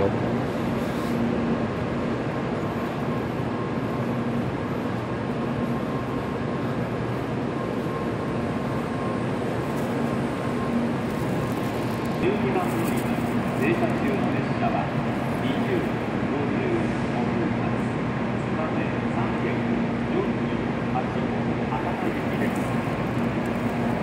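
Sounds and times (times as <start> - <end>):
train equipment humming and hissing: 0.0 - 24.0.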